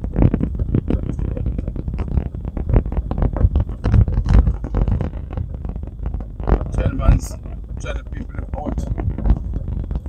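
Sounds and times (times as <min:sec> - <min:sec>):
vehicle rumbling on rough road: 0:00.0 - 0:10.0.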